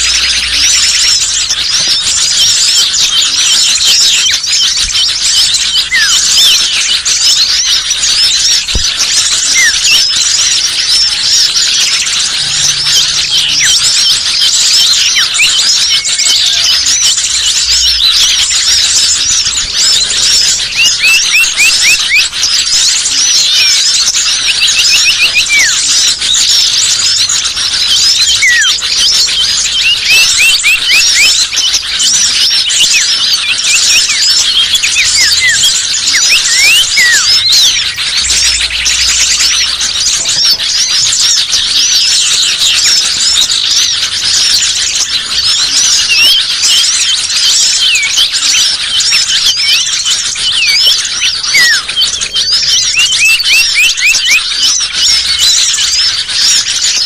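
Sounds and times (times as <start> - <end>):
falling bird whistles: 0.0 - 56.9
songbirds chirping and chattering: 0.0 - 57.0.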